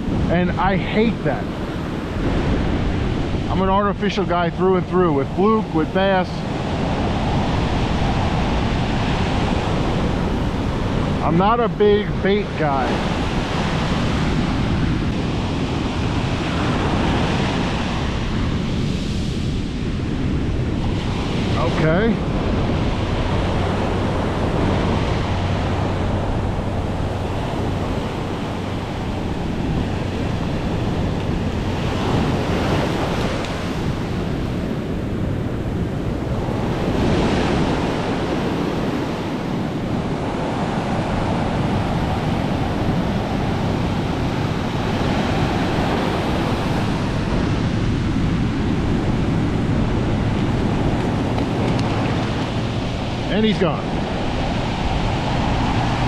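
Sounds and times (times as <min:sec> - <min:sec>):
surf breaking on beach: 0:00.0 - 0:56.0
wind buffeting microphone: 0:00.0 - 0:56.0.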